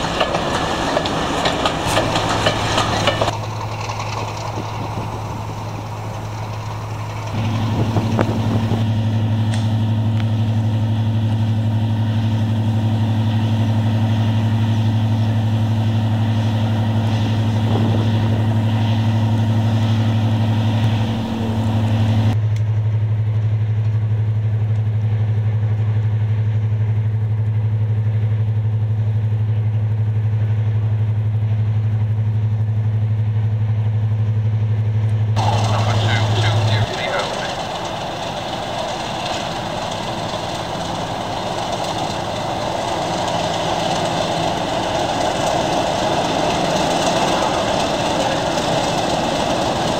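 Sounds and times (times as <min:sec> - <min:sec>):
diesel locomotive engine droning: 0:00.0 - 0:49.9.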